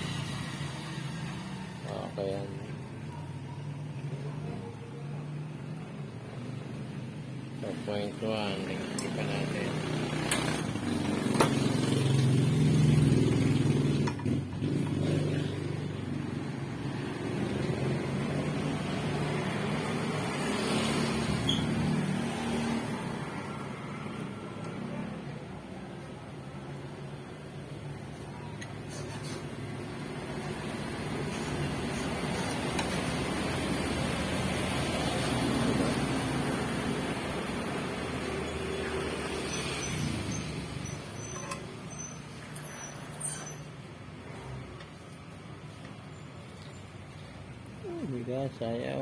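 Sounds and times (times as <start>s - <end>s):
motor vehicle running: 0.0s - 47.8s.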